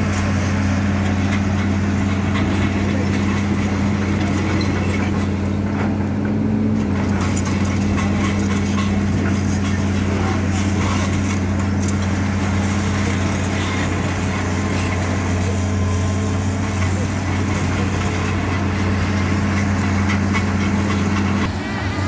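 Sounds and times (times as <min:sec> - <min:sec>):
excavator diesel engine humming: 0:00.0 - 0:22.0.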